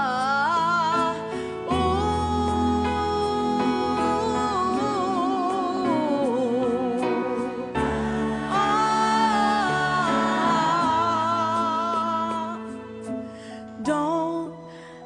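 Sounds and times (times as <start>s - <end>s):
musical accompaniment: 0.0s - 15.0s
woman singing a slow ballad: 0.0s - 15.0s.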